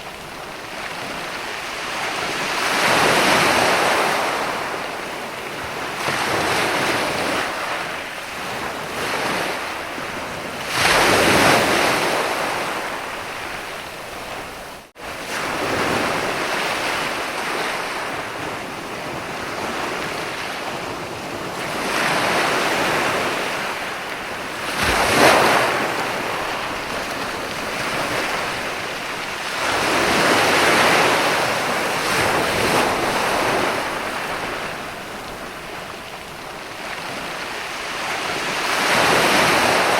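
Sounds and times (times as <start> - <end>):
sea waves washing onto beach: 0.0 - 39.9.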